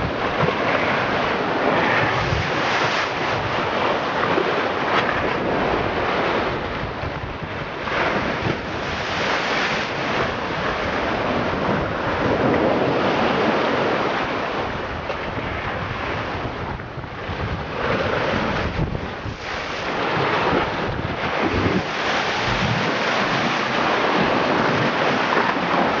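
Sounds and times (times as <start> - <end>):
sea surf rushing into rocks: 0.0 - 26.0
wind buffeting microphone: 0.0 - 26.0.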